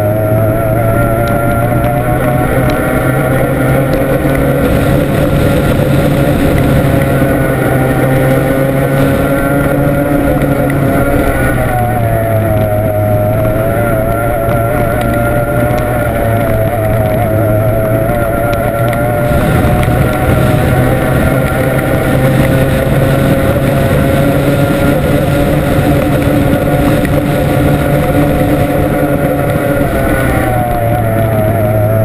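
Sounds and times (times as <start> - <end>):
outboard racing engine flat out: 0.0 - 32.0
wind noise: 0.0 - 32.0.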